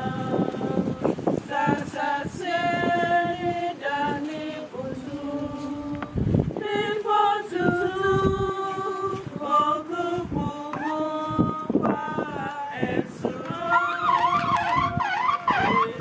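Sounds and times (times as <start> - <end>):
voices singing slow song: 0.0 - 16.0.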